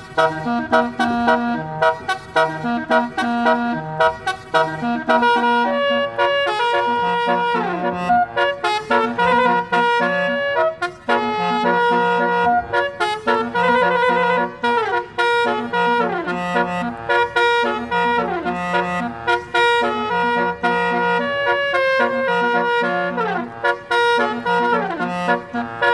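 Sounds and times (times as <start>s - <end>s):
brass-like horn melody: 0.0s - 25.9s.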